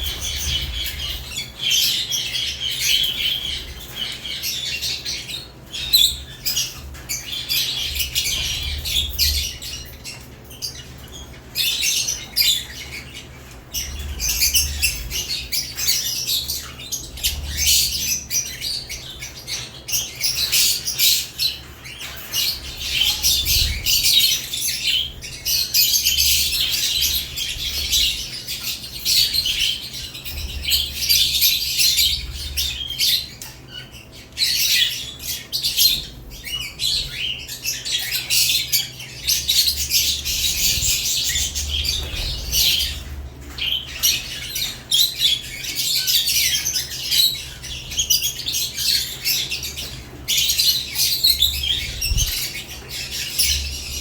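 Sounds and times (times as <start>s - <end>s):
lovebirds chirping and chattering: 0.0s - 54.0s.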